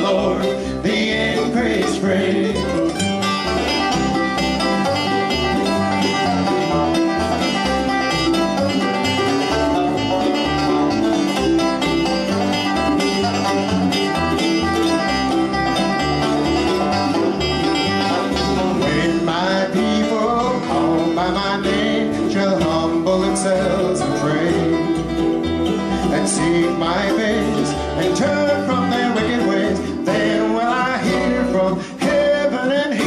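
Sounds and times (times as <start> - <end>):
bluegrass string band playing: 0.0 - 33.0.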